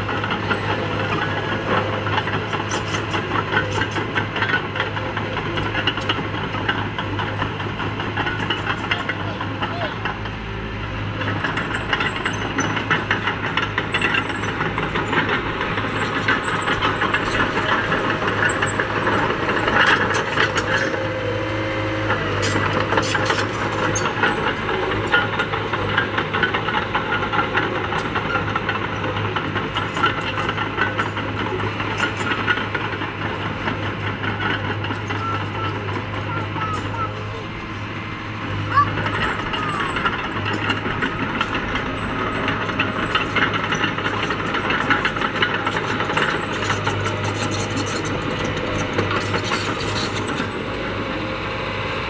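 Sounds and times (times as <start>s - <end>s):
bulldozer clatter pushing dirt: 0.0s - 52.0s
bulldozer diesel engine running: 0.0s - 52.0s.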